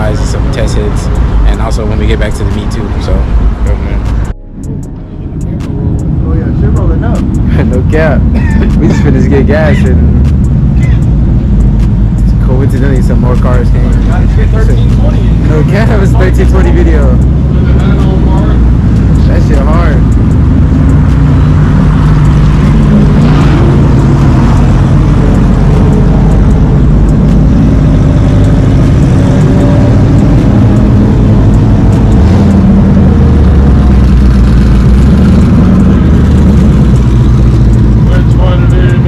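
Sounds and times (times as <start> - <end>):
engine revving: 0.0 - 39.0
loud car engines running: 0.0 - 39.0.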